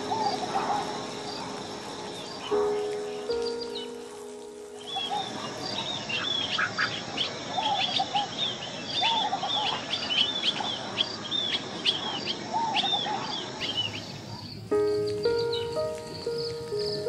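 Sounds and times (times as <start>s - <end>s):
birds chirping high: 0.0s - 17.0s.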